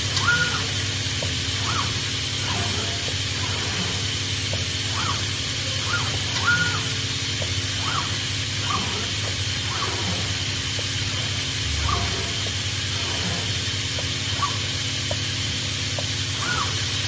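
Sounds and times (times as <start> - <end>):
machinery hiss and hum: 0.0 - 17.0
motor whines: 0.0 - 17.0.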